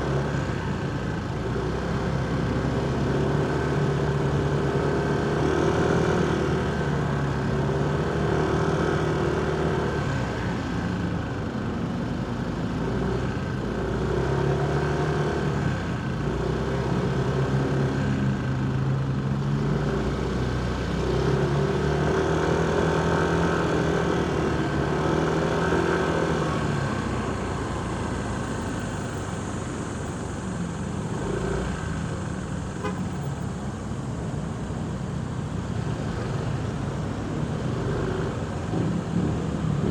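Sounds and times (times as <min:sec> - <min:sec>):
surrounding traffic noise: 0:00.0 - 0:39.9.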